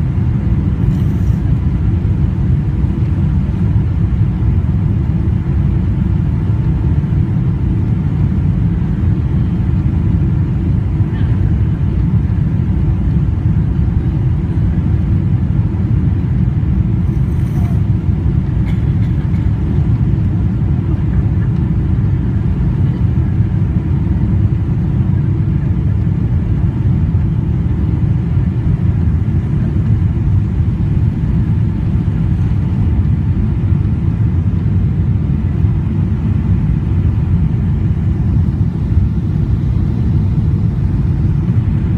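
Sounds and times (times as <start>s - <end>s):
faint hum: 0.0s - 41.9s
jet engine cabin rumble: 0.0s - 41.9s.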